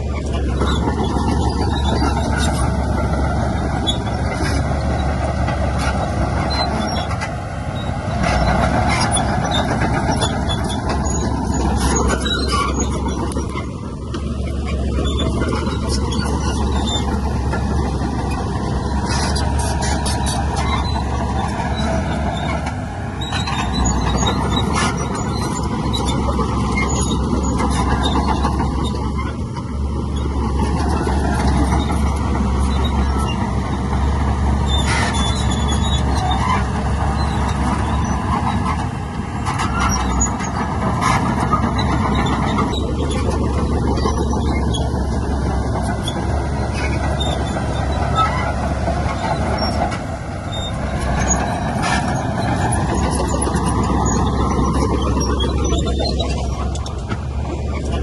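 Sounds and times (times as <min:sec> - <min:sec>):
heavy diesel machinery running: 0:00.0 - 0:58.0
metallic squeals and clanks: 0:00.0 - 0:58.0.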